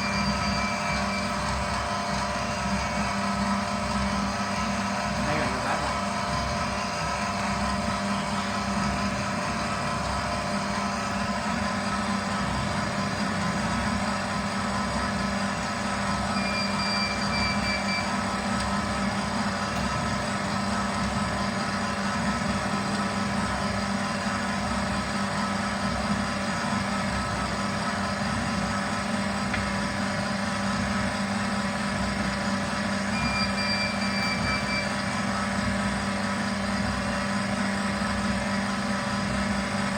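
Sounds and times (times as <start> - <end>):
pipe-cutting machine hum: 0.0 - 39.9.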